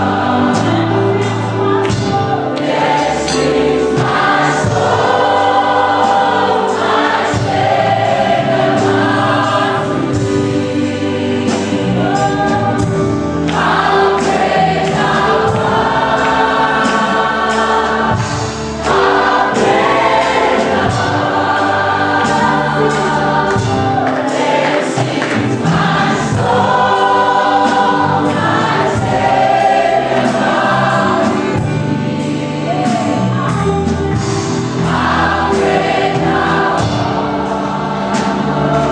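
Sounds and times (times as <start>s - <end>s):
choir singing gospel song: 0.0s - 38.9s.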